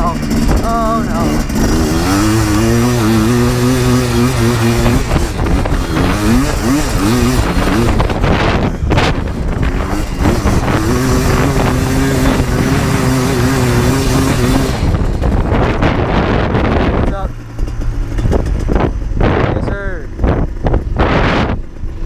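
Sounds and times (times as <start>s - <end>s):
two-stroke engine revving: 0.0s - 22.0s
wind buffeting microphone: 0.0s - 22.0s.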